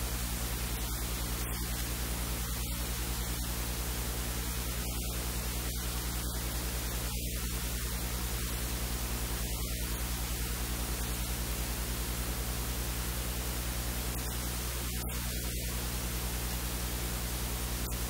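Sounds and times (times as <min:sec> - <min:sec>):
constant hiss: 0:00.0 - 0:18.0
electrical hum: 0:00.0 - 0:18.0.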